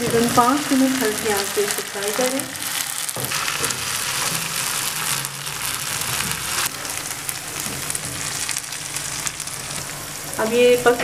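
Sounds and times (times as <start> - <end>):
spatula turning food: 0.0 - 10.2
food sizzling in frying pan: 0.0 - 11.0.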